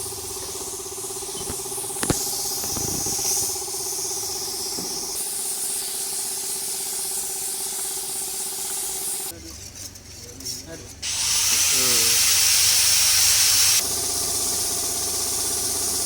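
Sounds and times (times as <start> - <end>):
paint spray gun hissing: 0.0 - 9.4, 11.0 - 16.0.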